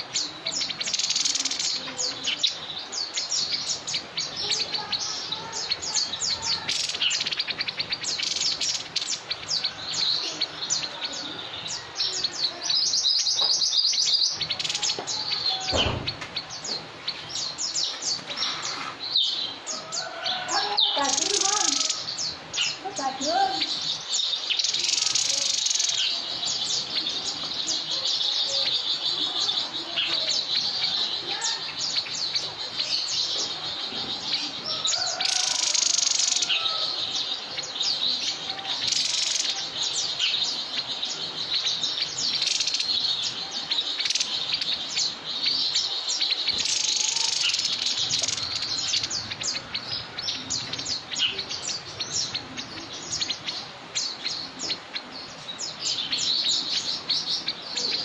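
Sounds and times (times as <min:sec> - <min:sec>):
songbird chirping rapidly: 0:00.0 - 0:58.0.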